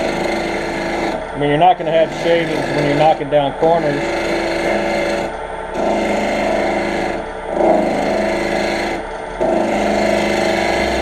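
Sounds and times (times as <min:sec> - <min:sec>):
woodturning gouge chattering on wood: 0:00.0 - 0:11.0.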